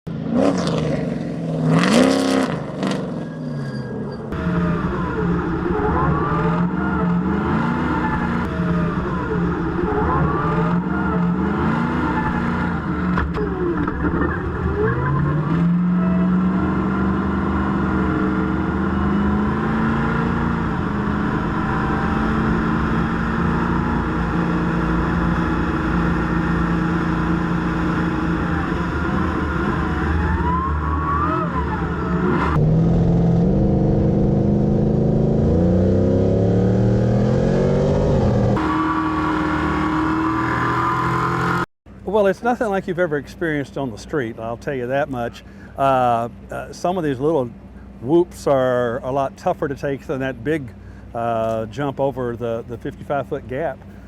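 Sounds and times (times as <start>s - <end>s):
racing truck engine revving: 0.1s - 45.3s.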